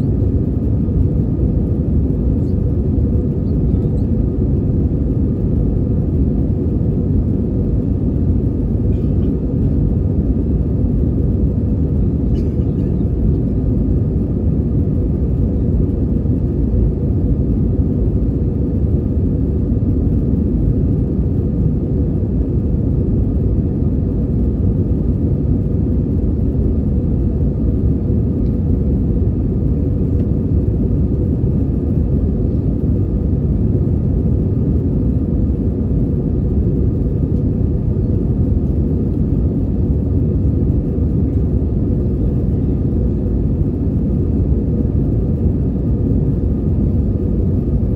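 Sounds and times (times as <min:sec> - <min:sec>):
engine and airflow rumble: 0:00.0 - 0:47.9
faint hum: 0:00.0 - 0:47.9.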